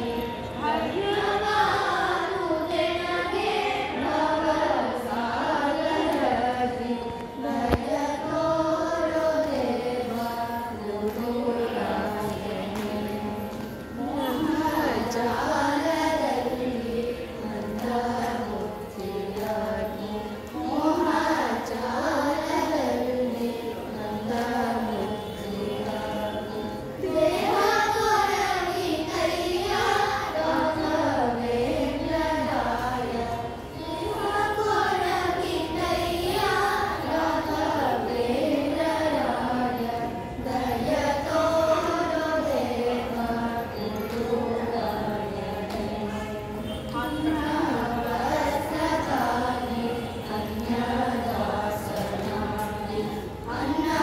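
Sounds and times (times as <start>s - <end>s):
children singing in unison: 0.0s - 54.0s.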